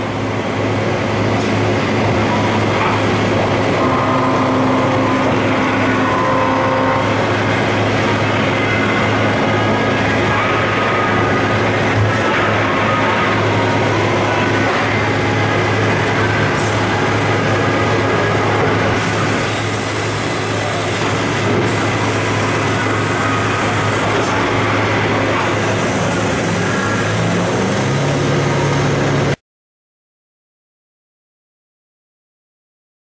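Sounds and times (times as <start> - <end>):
coolant spraying in machine: 0.0 - 29.4
low machine hum: 0.0 - 29.4.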